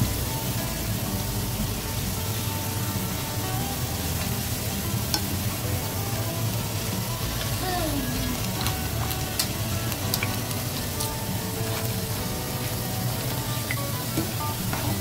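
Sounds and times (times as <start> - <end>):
potato slices sizzling in oil: 0.0 - 15.0
utensil stirring in pan: 0.0 - 15.0.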